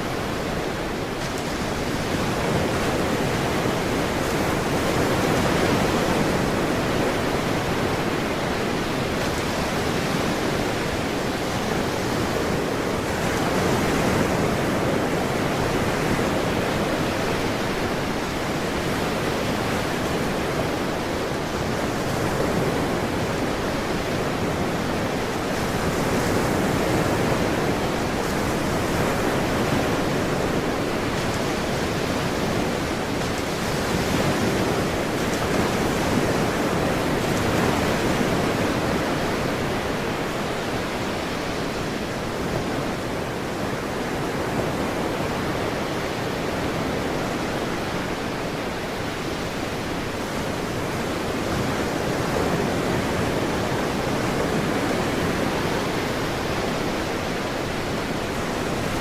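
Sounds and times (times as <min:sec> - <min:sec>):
ocean surf washing in: 0:00.0 - 0:59.0.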